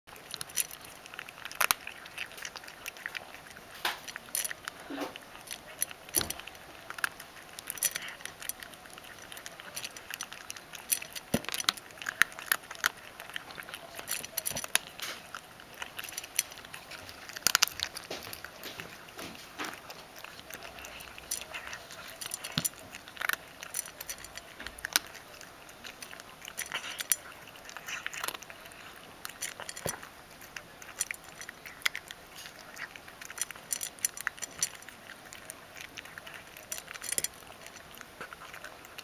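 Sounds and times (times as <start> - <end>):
cat crunching dry kibble: 0.1 - 39.0.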